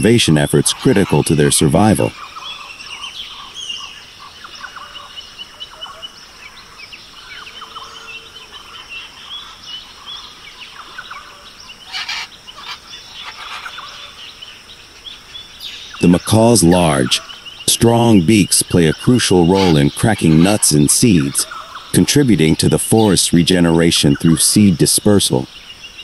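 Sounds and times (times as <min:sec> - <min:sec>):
birds calling and chirping: 0:00.0 - 0:26.0.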